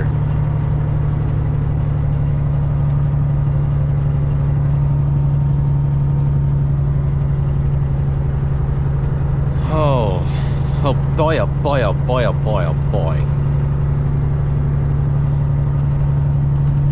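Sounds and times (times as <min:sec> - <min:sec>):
truck diesel engine droning: 0:00.0 - 0:16.9.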